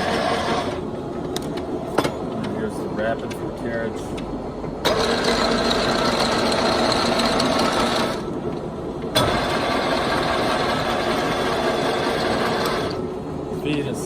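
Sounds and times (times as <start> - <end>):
lathe carriage gear whine: 0.0 - 14.0.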